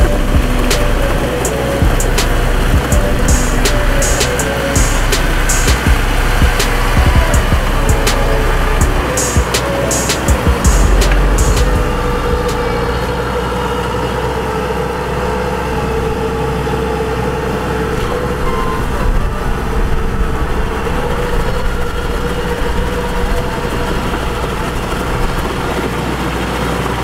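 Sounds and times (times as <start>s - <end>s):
combine harvester diesel engine: 0.0s - 27.0s.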